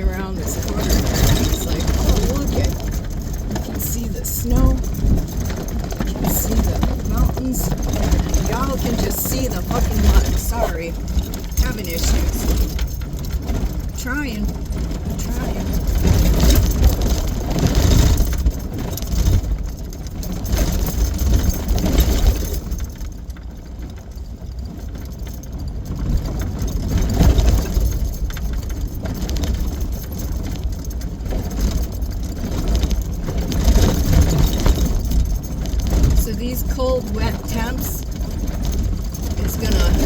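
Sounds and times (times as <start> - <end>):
rattles: 0.0 - 40.0
vehicle driving on dirt road: 0.0 - 40.0.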